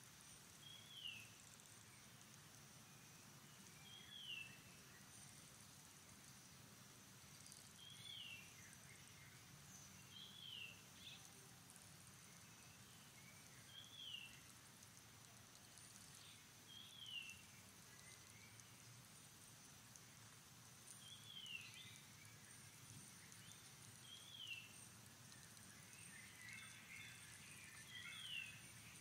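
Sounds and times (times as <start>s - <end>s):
faint high hiss: 0.0s - 29.0s.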